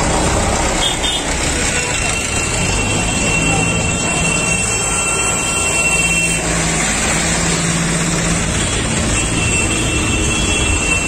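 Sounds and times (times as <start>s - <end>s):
diesel tractor engines running: 0.0s - 11.0s
heavy traffic noise: 0.0s - 11.0s.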